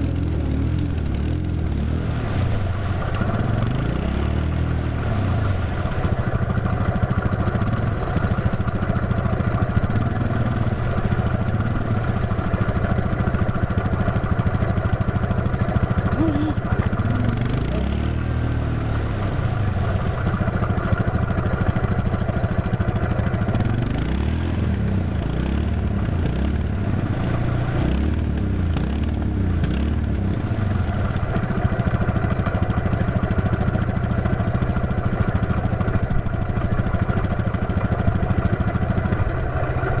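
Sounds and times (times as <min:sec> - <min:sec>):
atv engine revving: 0:00.0 - 0:40.0
wheels spinning in mud: 0:00.0 - 0:40.0.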